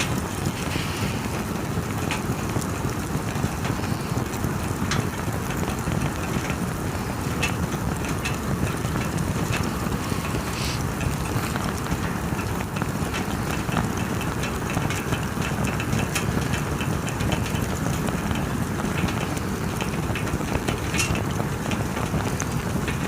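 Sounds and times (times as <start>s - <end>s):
bonfire crackling and popping: 0.0s - 23.0s
low rush of fire: 0.0s - 23.0s.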